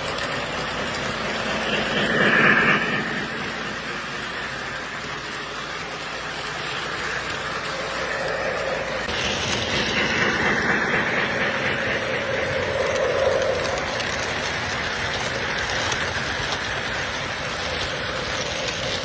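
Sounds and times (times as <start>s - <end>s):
model train wheels rattling: 0.0s - 19.0s.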